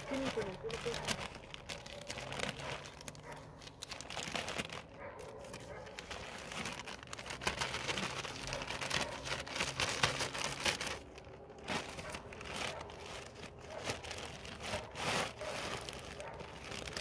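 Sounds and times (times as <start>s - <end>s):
bag crinkling and rustling: 0.0s - 17.0s.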